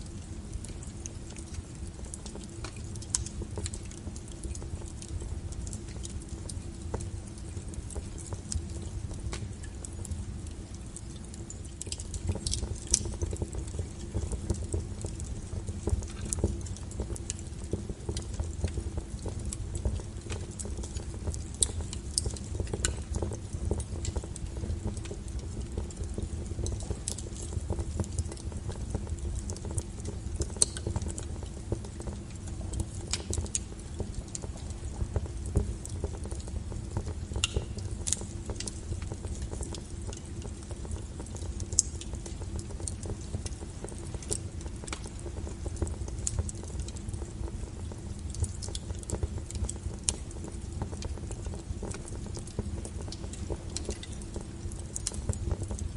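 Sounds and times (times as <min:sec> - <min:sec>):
firewood crackling and popping: 0:00.0 - 0:55.9
wood fire rumbling: 0:00.0 - 0:55.9.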